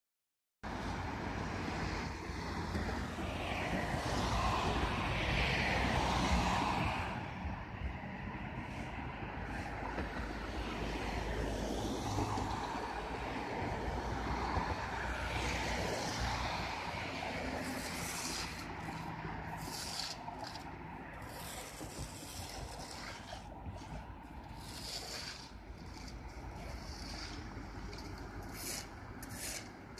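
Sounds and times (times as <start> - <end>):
cars passing on road: 0.6 - 29.9.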